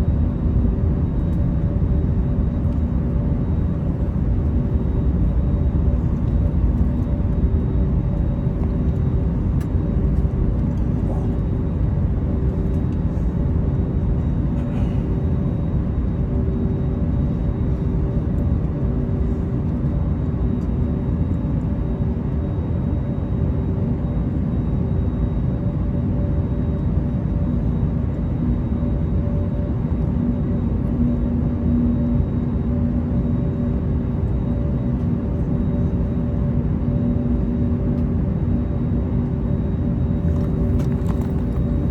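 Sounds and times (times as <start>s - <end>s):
aircraft cabin low rumble: 0.0s - 41.9s.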